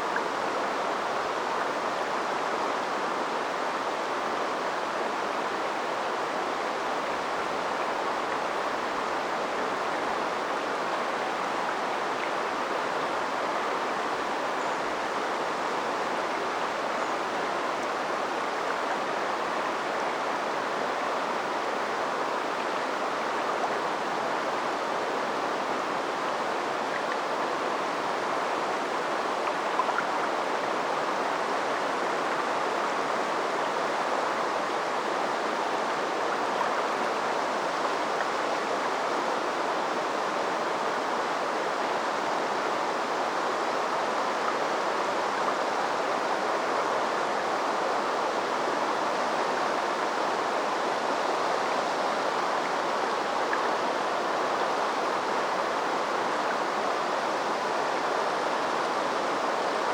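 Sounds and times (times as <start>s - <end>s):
river babbling over stones: 0.0s - 59.9s.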